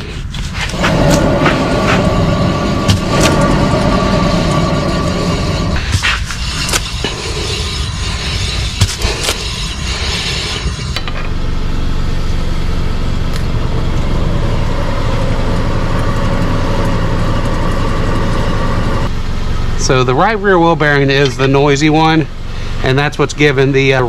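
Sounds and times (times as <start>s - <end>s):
car wheel bearing roaring hum: 0.0s - 23.8s.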